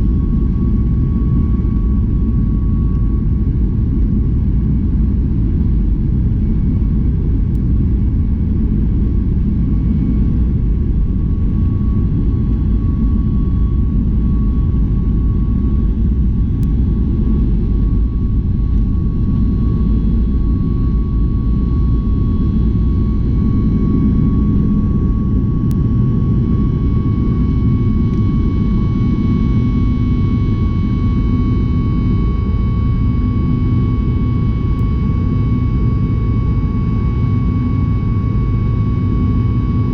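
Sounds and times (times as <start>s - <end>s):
jet engine cabin rumble: 0.0s - 39.9s
jet engine whine: 0.0s - 39.9s.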